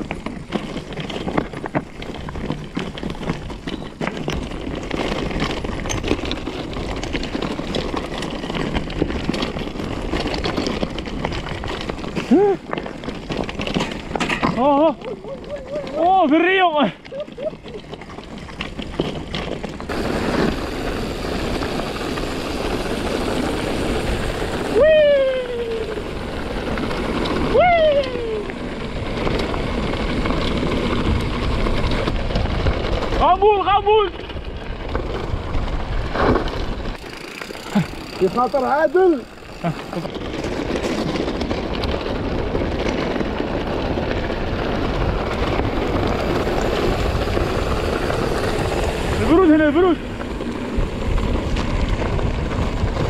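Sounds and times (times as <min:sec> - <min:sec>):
bike clicks and rattles: 0:00.0 - 0:53.0
wind and tyre noise: 0:00.0 - 0:53.0.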